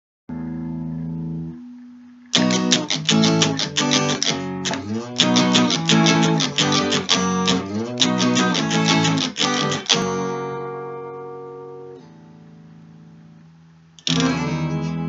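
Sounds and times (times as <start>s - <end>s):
electric guitar chords and picked notes: 0.3s - 13.3s, 14.0s - 15.0s.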